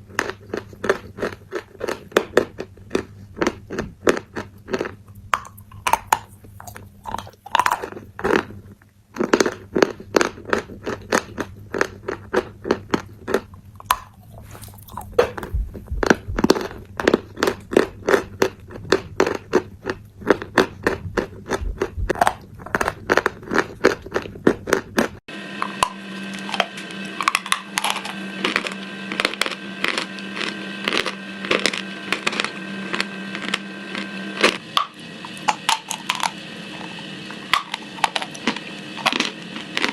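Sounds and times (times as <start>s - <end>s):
chewing crisp food: 0.0s - 25.2s, 26.3s - 39.9s
background hum: 0.0s - 39.9s.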